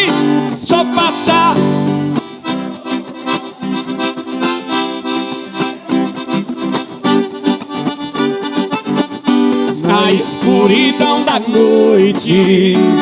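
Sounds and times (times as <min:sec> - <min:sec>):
accordion melody: 0:00.0 - 0:13.0
strummed and plucked guitar: 0:00.0 - 0:13.0.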